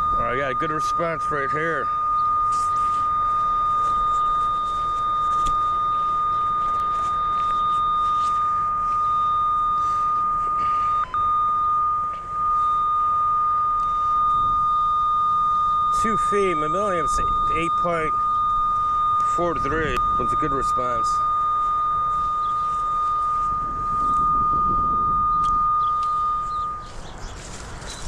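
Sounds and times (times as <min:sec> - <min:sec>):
steady high-pitched tone: 0:00.0 - 0:28.0.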